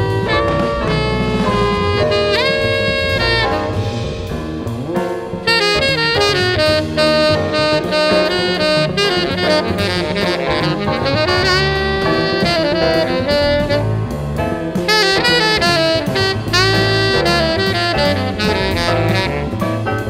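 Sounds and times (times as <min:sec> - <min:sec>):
instrumental music with steady beat: 0:00.0 - 0:20.0.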